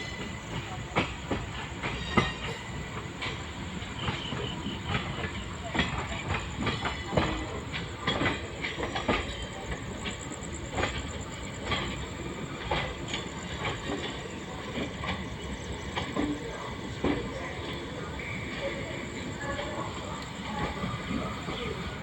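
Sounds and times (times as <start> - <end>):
train wheels rumbling on track: 0.0 - 22.0
wheels clicking over rail joints: 0.1 - 22.0.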